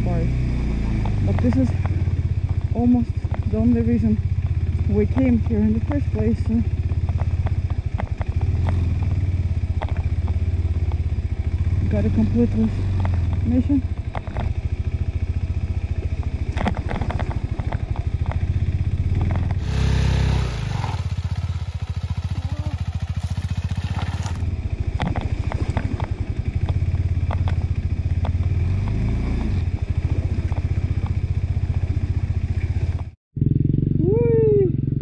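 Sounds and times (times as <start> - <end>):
motorcycle engine revving: 0.0 - 35.0
motorcycle clattering over rough ground: 0.9 - 33.2.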